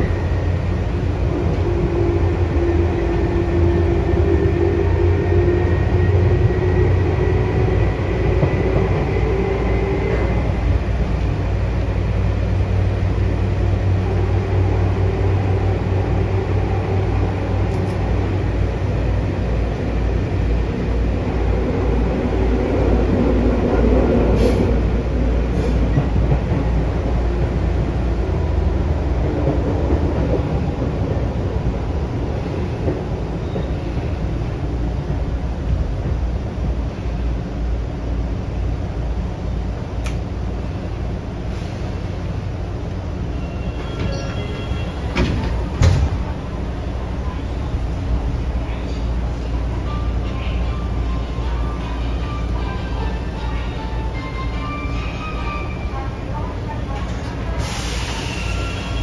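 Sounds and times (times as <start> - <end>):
train rumbling in tunnel: 0.0 - 59.0.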